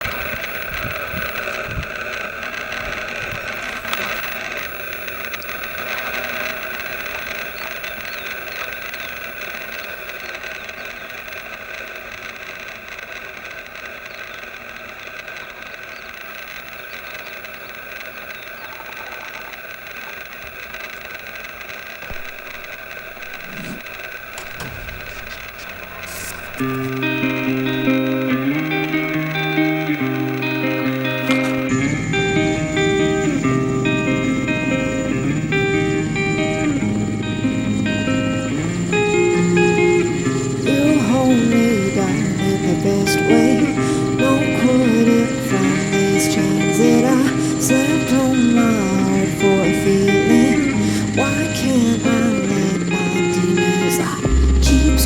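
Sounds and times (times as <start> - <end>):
light aircraft engine running: 0.0 - 55.0.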